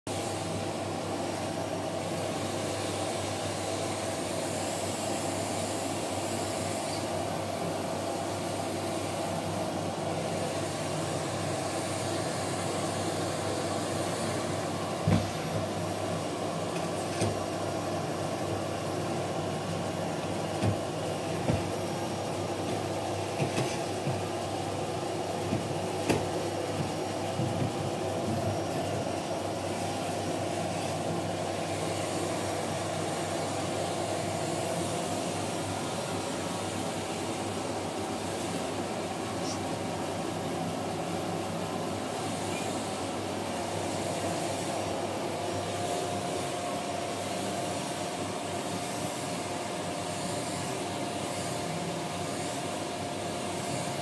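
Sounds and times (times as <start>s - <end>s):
vacuum cleaner droning: 0.1s - 54.0s.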